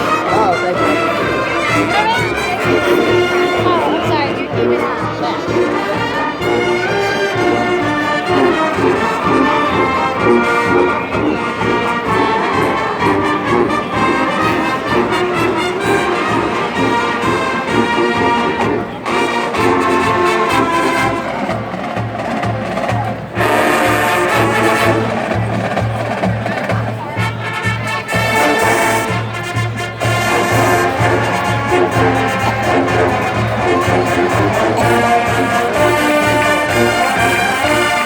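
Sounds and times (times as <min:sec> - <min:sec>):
marching band brass playing: 0:00.0 - 0:38.0.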